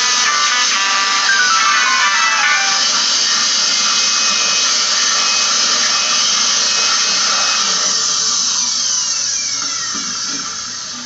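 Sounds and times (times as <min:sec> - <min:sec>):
electric air blower running: 0:00.0 - 0:11.0.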